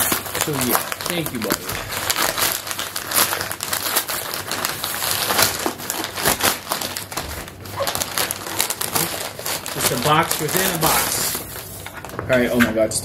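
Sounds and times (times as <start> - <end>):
paper tearing and crumpling: 0.0 - 12.7.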